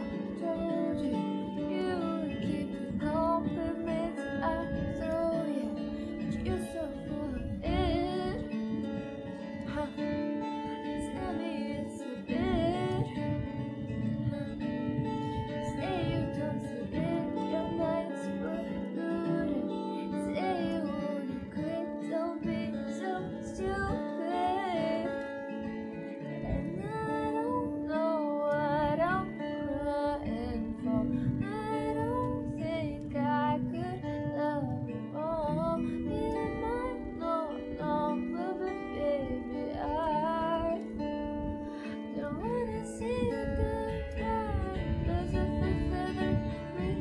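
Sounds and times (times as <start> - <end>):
guitar accompaniment: 0.0 - 47.0
woman singing: 0.0 - 47.0.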